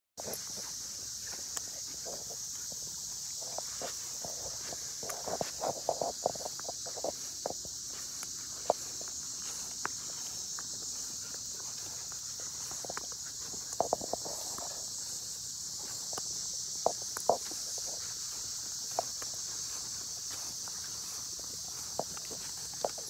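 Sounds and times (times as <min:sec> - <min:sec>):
high insect chorus: 0:00.2 - 0:23.0.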